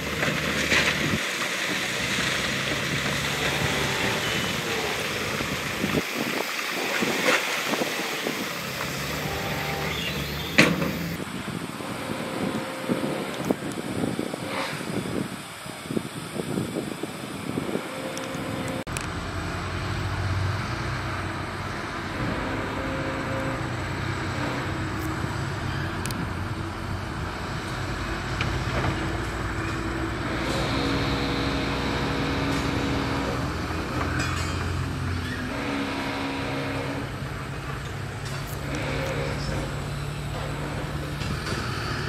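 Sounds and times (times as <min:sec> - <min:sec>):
heavy diesel engine working: 0:00.0 - 0:42.0.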